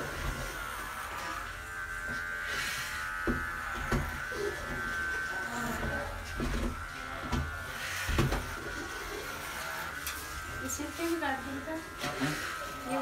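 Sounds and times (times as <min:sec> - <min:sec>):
electric clippers buzzing: 0:00.0 - 0:13.0.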